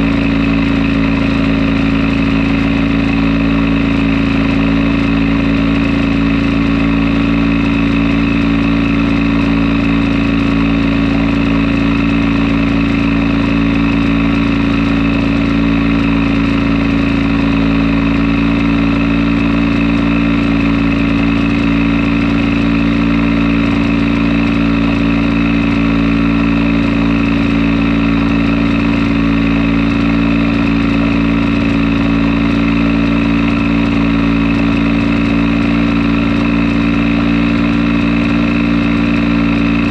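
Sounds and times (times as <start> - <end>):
two-stroke generator engine running: 0.0 - 39.9.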